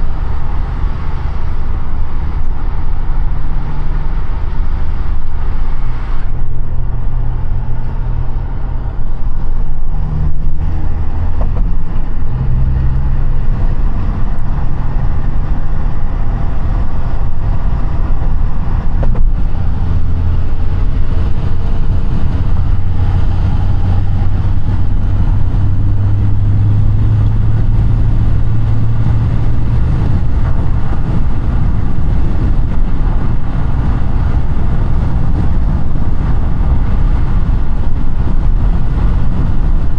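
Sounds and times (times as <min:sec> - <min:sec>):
car engine while driving: 0:00.0 - 0:39.9
tyre and road noise: 0:00.0 - 0:39.9.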